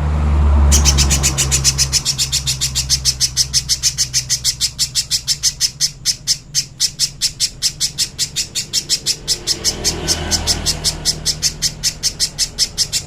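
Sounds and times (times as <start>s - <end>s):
bird calling sharp high chips: 0.6s - 13.0s.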